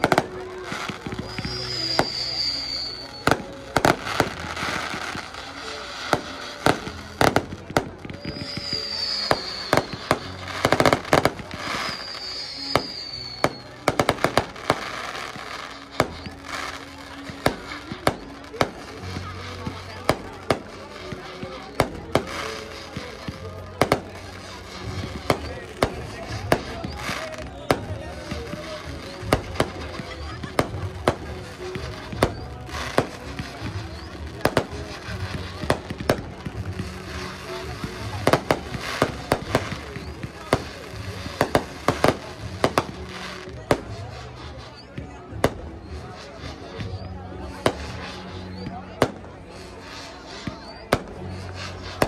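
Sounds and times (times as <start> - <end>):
firework whistles: 0.0 - 52.0
fireworks bangs and cracks: 0.0 - 52.0
music: 0.0 - 52.0
voices: 0.0 - 52.0.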